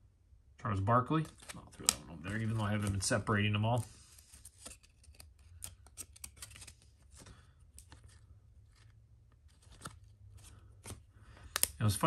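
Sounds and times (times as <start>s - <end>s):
cards clicking and rustling: 1.2s - 12.0s.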